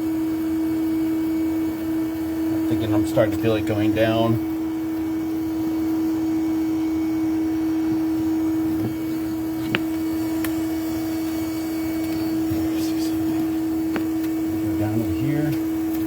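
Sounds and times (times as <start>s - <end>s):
vacuum motor humming: 0.0s - 16.0s.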